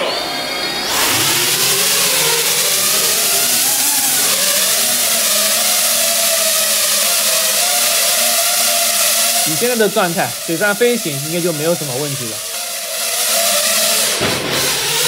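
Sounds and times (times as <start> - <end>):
ducted fans whining: 0.0 - 15.0.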